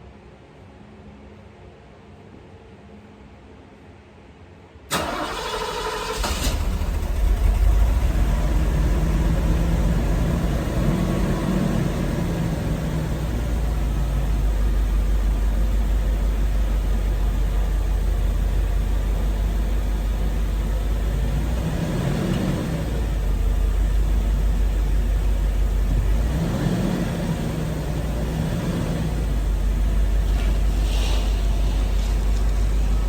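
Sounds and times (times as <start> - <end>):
car engine running: 6.2 - 33.0.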